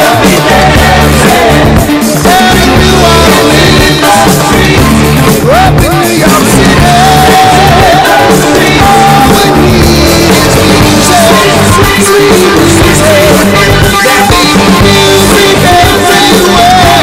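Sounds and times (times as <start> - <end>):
bass line: 0.0 - 17.0
loud music: 0.0 - 17.0
person singing: 0.0 - 17.0.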